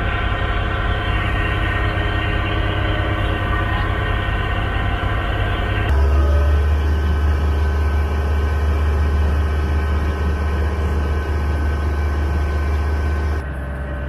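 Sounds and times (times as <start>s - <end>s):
boat engine drone: 0.0s - 14.0s
steady whine: 0.0s - 14.0s.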